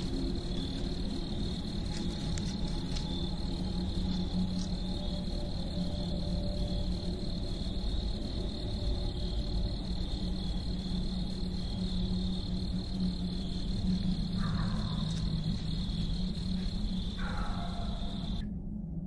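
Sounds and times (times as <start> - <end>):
crickets trilling: 0.0 - 18.5
low steady hum: 0.0 - 19.0.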